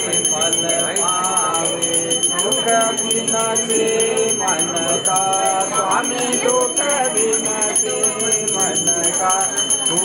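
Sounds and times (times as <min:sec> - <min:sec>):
metal hand bell ringing: 0:00.0 - 0:10.0
voices singing devotional song: 0:00.0 - 0:10.0.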